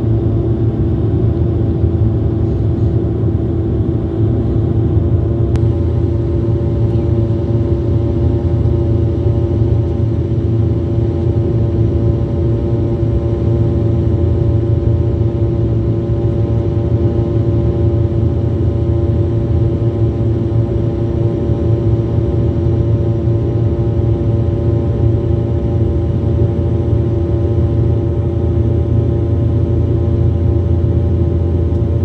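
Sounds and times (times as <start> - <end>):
low rumble of engines and airflow: 0.0 - 32.0.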